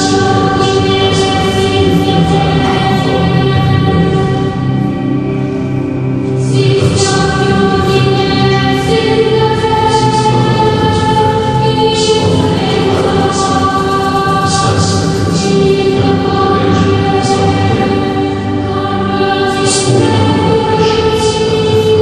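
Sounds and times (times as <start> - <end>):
choir holding sustained chords: 0.0 - 22.0.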